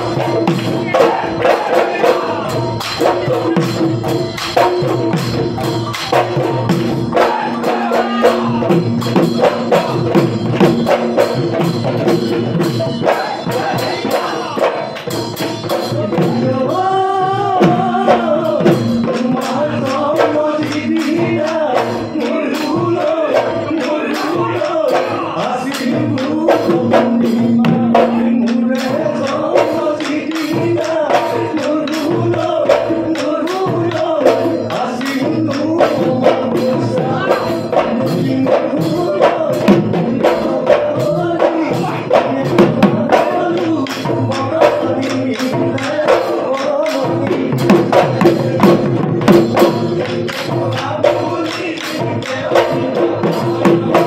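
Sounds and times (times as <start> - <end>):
drums beaten in fast rhythm: 0.0 - 54.0.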